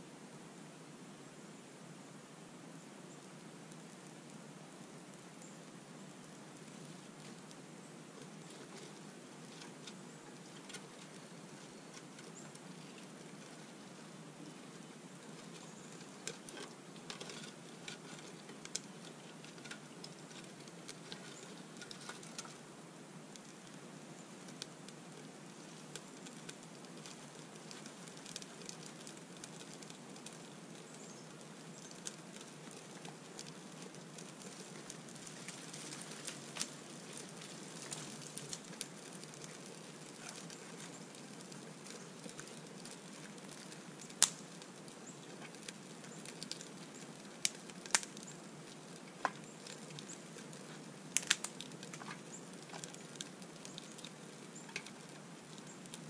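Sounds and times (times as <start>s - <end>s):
steady low hiss: 0.0s - 56.0s
paper and twigs rustling: 6.1s - 56.0s.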